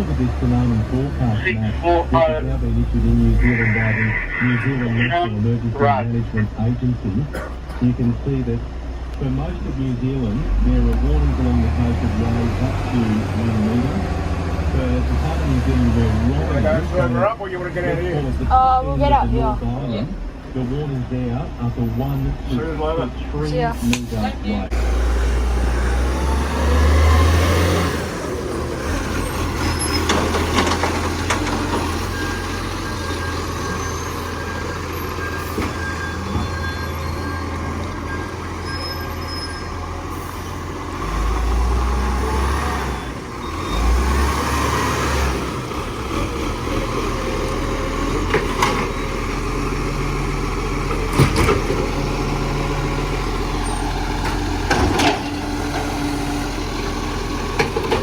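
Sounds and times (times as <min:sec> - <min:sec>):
garbage truck diesel engine: 0:00.0 - 0:58.0.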